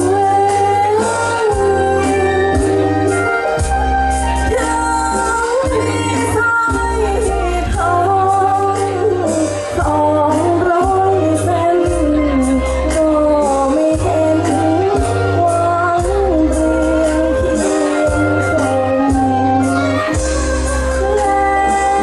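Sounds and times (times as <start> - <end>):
instrumental accompaniment with beat: 0.0 - 22.0
woman singing: 0.0 - 22.0.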